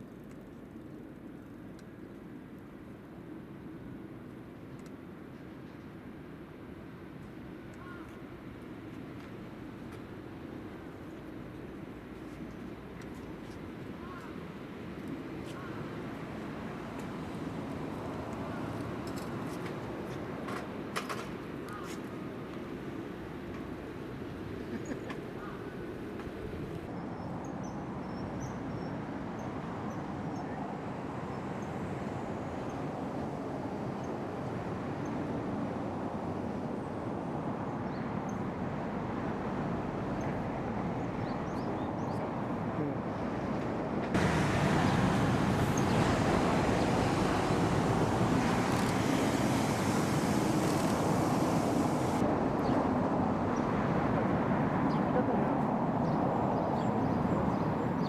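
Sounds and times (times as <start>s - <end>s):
steady rushing outdoor noise: 0.0s - 58.0s.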